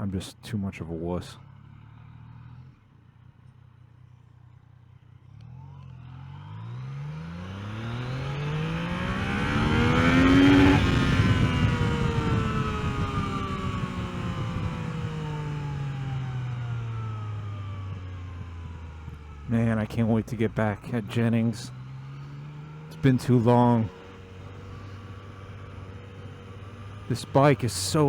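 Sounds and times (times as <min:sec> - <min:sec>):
motorcycle engine accelerating: 0:04.5 - 0:28.0.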